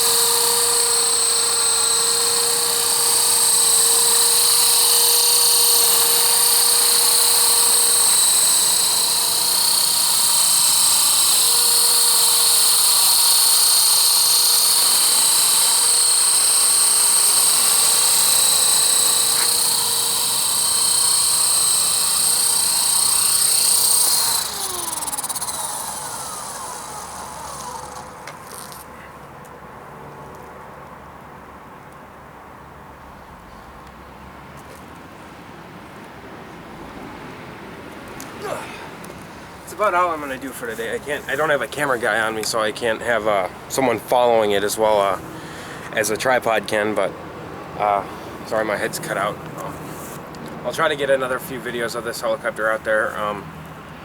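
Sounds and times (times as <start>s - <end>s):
rc helicopter rotor whine: 0.0s - 29.0s, 38.2s - 53.7s.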